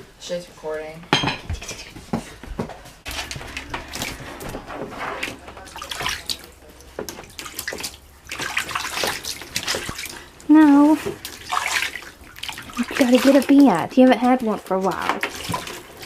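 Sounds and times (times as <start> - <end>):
running water rumble: 3.1 - 16.0
water splashing in a bathtub: 3.1 - 16.0.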